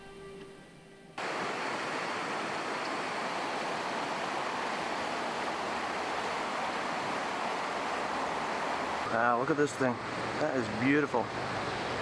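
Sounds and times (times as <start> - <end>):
river water rushing: 1.2 - 12.0.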